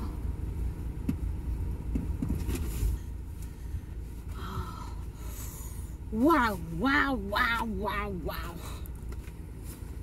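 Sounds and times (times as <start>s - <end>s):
low rumble in car cabin: 0.0s - 10.0s.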